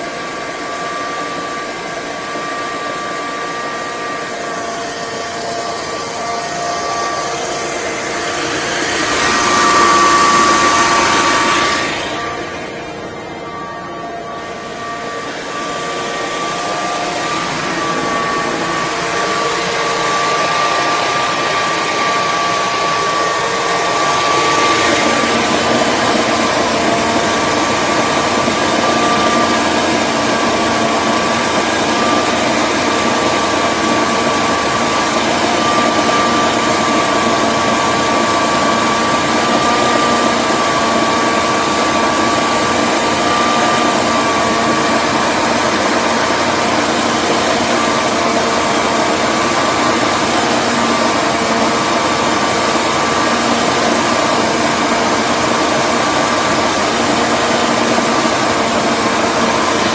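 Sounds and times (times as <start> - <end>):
generator hum: 0.0 - 59.9
generator whine: 0.0 - 59.9.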